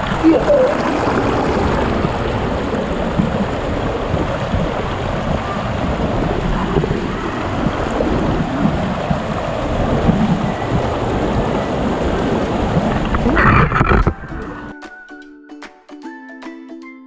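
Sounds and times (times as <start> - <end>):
stream rushing over boulders: 0.0 - 14.3.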